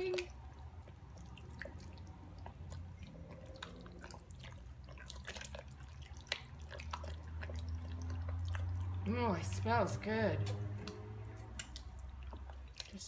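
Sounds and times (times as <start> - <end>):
spoon stirring thick sauce: 0.0 - 13.0.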